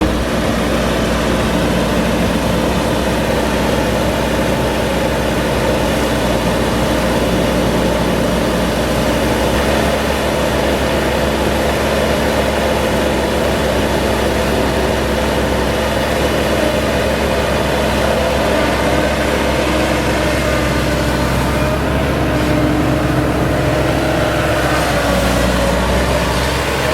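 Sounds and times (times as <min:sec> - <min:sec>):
diesel engine running steadily: 0:00.0 - 0:26.9.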